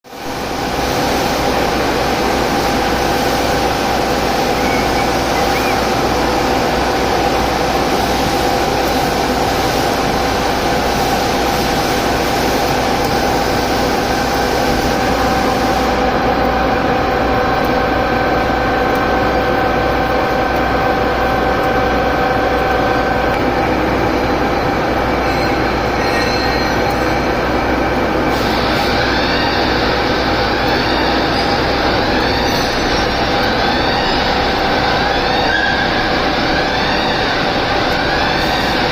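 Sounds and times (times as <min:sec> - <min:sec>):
milling machine running with whine: 0:00.1 - 0:38.9.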